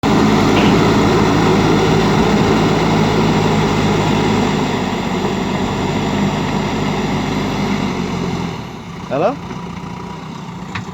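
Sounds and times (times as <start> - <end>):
diesel engine under load: 0.0 - 10.9.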